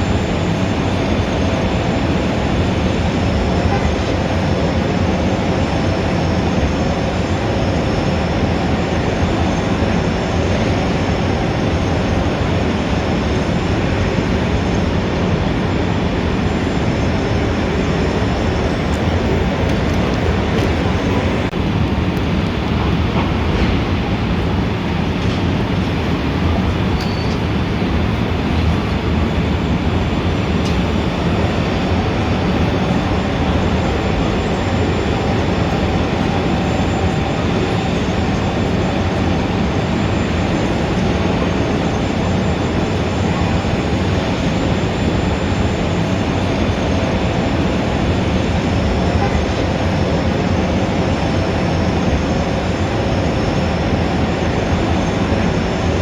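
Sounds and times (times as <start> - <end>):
dense city traffic rumble: 0.0 - 56.0.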